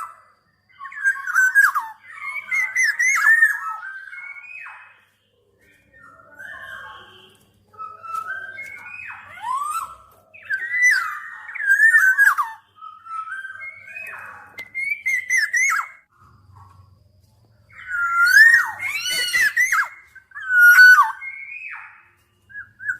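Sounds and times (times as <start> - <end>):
bird singing fluty whistles: 0.0 - 16.7, 17.6 - 22.9.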